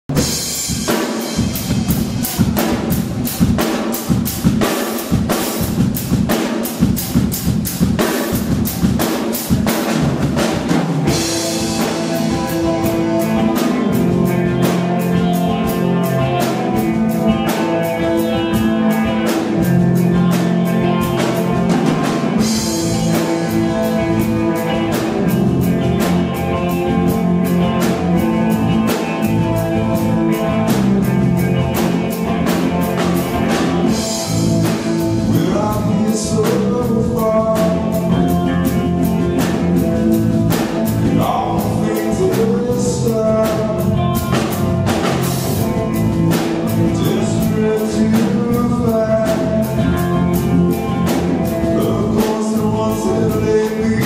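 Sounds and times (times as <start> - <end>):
bass guitar notes: 0.0 - 54.0
drum kit beat: 0.0 - 54.0
electric guitar notes: 7.9 - 54.0.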